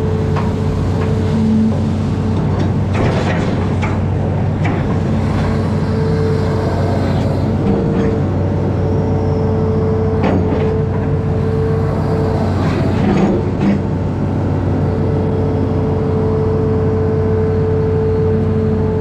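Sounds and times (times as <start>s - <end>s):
diesel engine running: 0.0s - 19.0s
steady whine: 0.0s - 19.0s.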